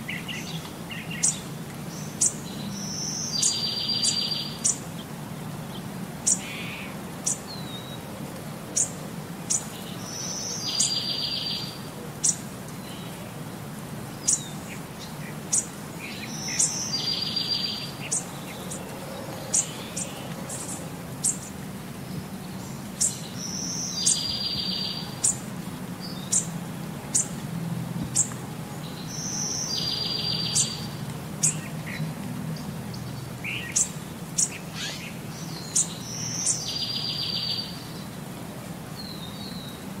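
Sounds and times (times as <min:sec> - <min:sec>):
small birds chirping: 0:00.0 - 0:08.1, 0:08.7 - 0:13.3, 0:14.1 - 0:27.4, 0:28.0 - 0:40.0.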